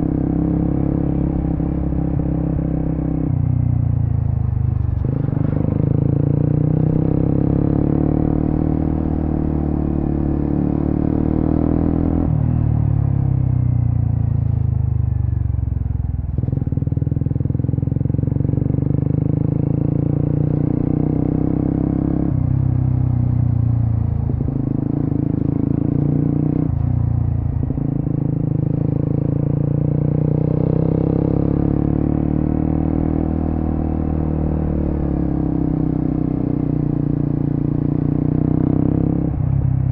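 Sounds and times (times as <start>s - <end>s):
motorcycle engine revving: 4.4s - 13.3s, 16.3s - 39.9s.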